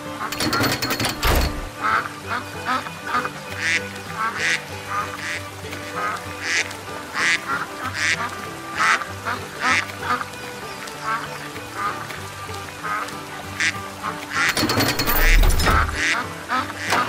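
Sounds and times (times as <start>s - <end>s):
ducks quacking: 0.0s - 0.8s, 1.4s - 17.0s
background music: 0.0s - 17.0s.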